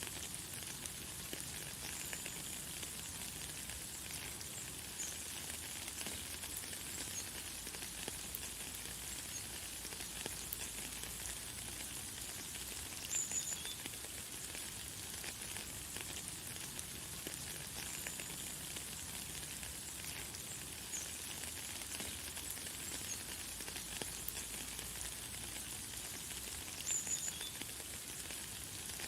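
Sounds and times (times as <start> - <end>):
light rain falling: 0.0 - 29.0.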